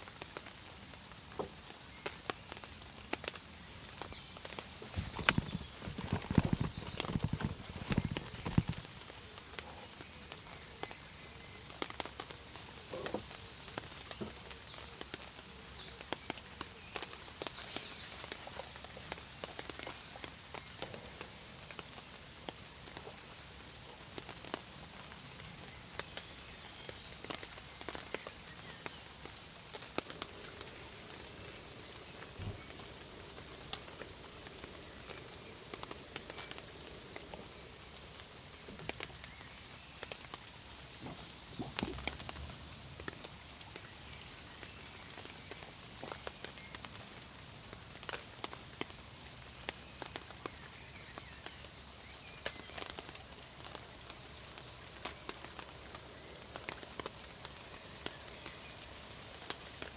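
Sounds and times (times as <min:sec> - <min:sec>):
rain falling: 0:00.0 - 0:59.9
raindrops tapping: 0:00.0 - 0:59.9.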